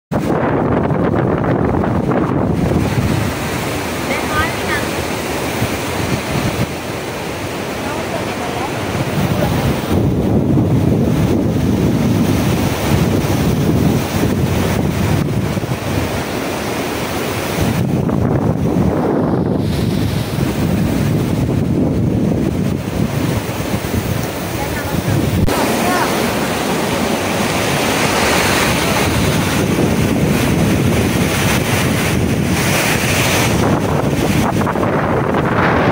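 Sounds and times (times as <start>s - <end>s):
storm wind gusting through trees: 0.1s - 35.9s
wind buffeting microphone: 0.1s - 35.9s.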